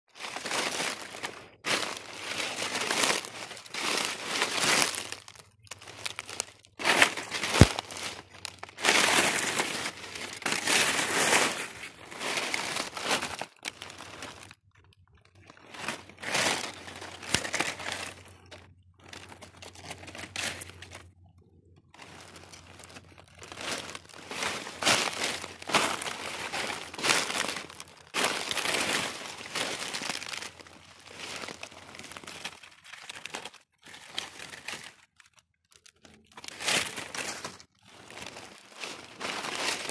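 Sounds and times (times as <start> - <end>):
dry leaves rustling and crunching: 0.1 - 21.2, 21.9 - 39.9.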